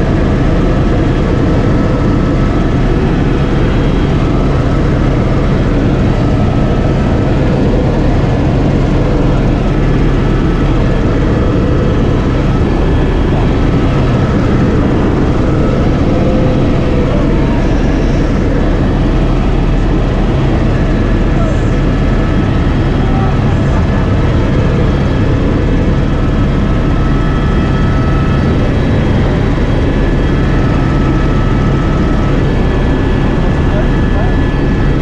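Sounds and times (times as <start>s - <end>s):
helicopter engine and rotor drone: 0.0s - 35.0s.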